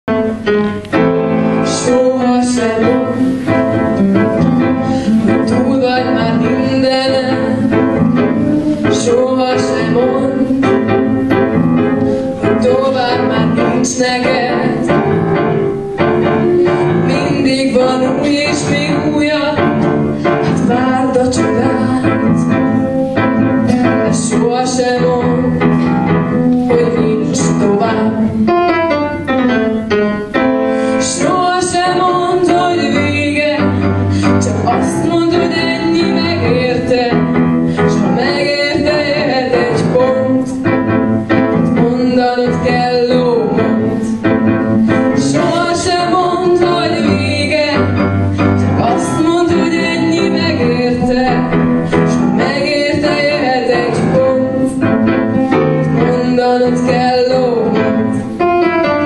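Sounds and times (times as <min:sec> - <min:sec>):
piano accompaniment: 0:00.0 - 0:59.0
woman singing into a microphone: 0:00.2 - 0:29.3, 0:30.4 - 0:59.0.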